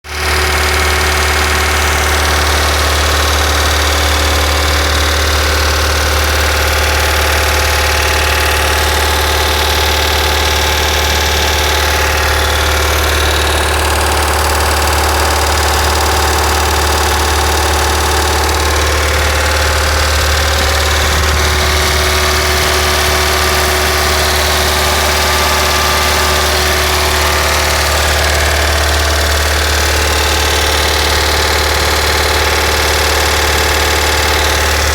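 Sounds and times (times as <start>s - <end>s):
car engine idling: 0.0s - 34.9s
rattling in engine bay: 0.0s - 34.9s.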